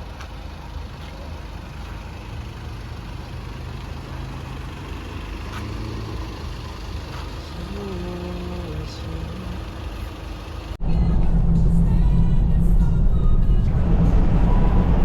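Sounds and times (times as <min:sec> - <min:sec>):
car engine running: 0:00.0 - 0:15.0
road hum: 0:00.0 - 0:15.0.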